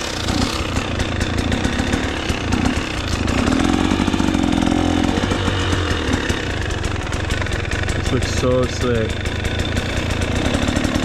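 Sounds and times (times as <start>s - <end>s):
dirt bike engine under load: 0.0s - 11.0s.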